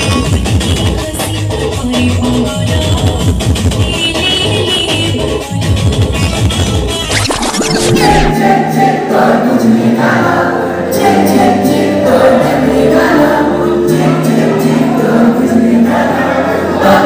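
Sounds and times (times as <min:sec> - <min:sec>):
song with singing voices: 0:00.0 - 0:17.0.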